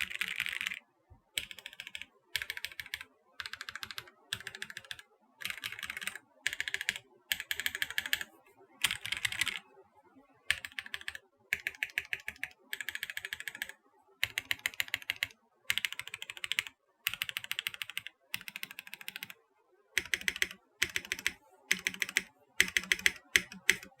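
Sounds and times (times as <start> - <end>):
mechanical keyboard typing: 0.0 - 0.8, 1.4 - 9.6, 10.5 - 19.4, 20.0 - 24.0.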